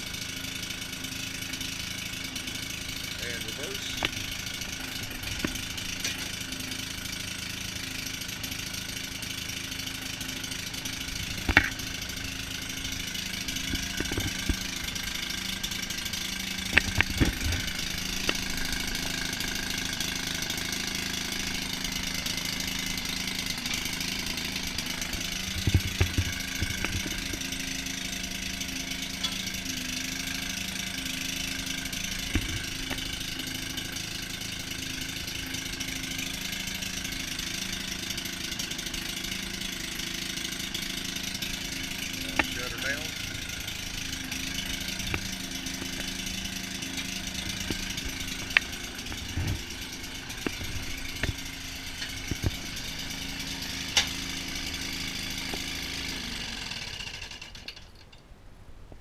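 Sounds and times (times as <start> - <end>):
gas engine idling: 0.0 - 58.2
sharp clanks: 9.9 - 58.2.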